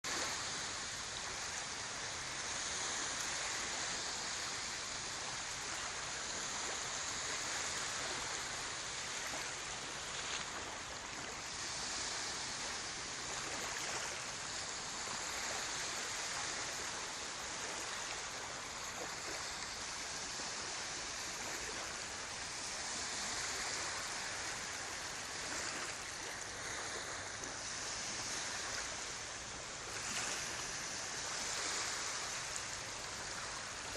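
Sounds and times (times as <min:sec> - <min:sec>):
lake waves washing on shore: 0:00.0 - 0:33.9.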